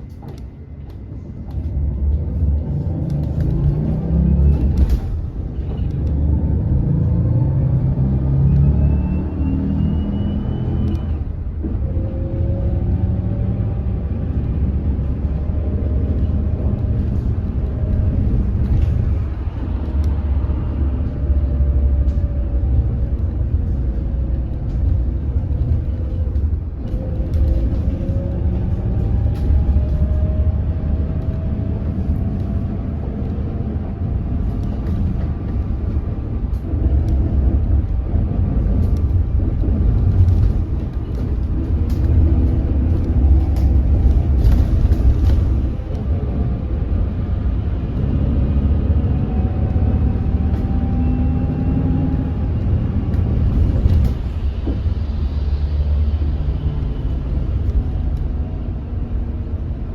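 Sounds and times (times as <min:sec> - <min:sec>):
low road rumble: 0:00.0 - 0:59.9.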